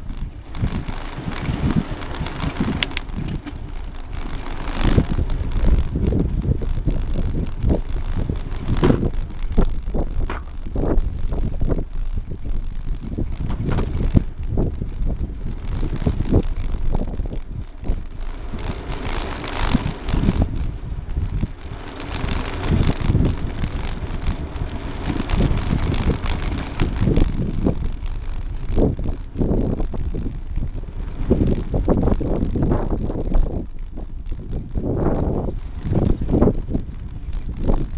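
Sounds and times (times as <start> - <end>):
bicycle knocks and rattles: 0.0 - 37.9
low rumble: 0.0 - 37.9
wind buffeting microphone: 0.0 - 37.9.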